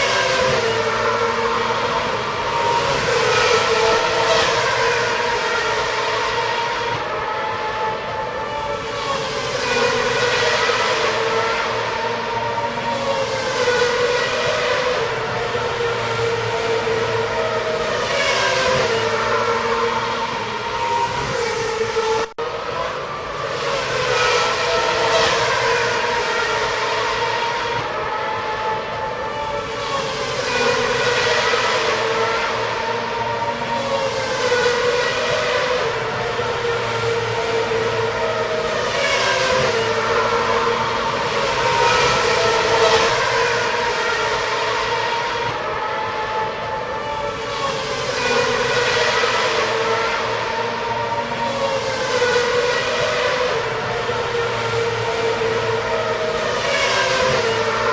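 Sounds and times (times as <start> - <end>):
racing cars passing: 0.0 - 57.9.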